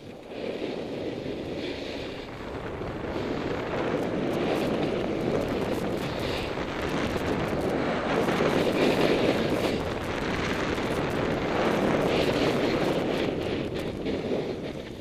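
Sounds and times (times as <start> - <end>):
snowboard scraping over snow: 0.0 - 15.0
wind rushing over microphone: 0.0 - 15.0.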